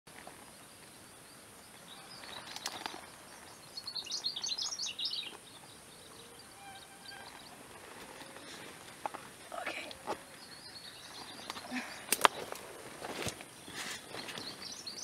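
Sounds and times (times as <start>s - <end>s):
bird chirping: 0.5s - 12.7s, 13.5s - 15.0s.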